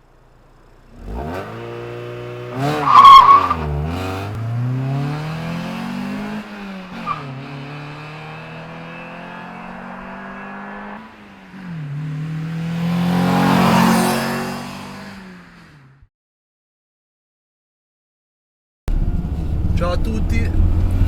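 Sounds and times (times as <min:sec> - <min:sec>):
car engine revving: 0:00.1 - 0:16.0, 0:18.9 - 0:21.0.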